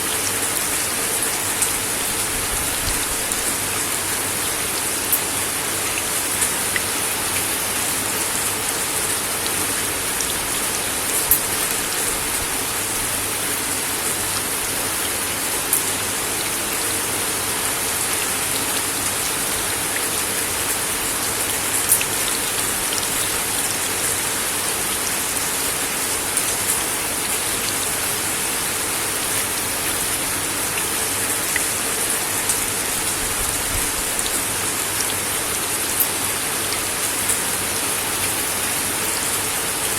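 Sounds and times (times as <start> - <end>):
rain on a wooden deck: 0.0 - 39.9.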